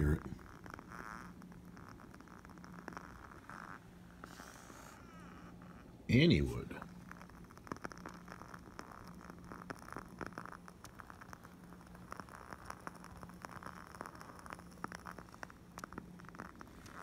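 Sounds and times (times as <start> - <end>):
candle wick crackling: 0.0 - 17.0
low steady hum: 0.0 - 17.0.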